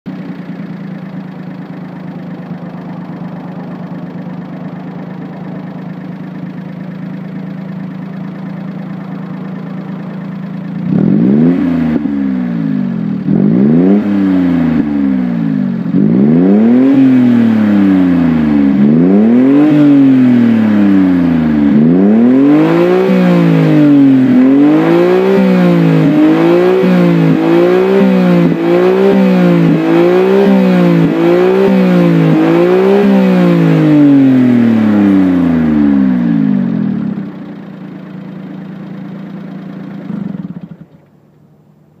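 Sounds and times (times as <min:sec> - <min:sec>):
car engine idling and revving: 0:00.1 - 0:42.0.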